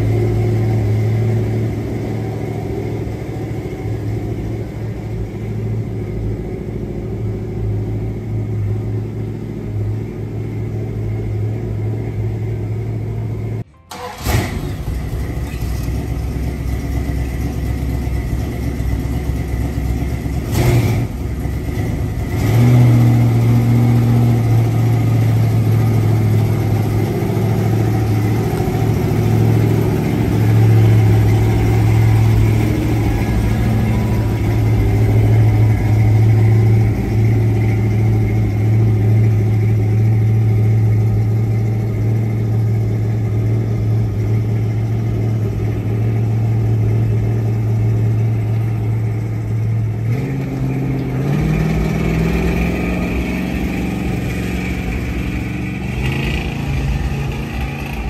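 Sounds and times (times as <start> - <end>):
pickup engine running: 0.0 - 58.0.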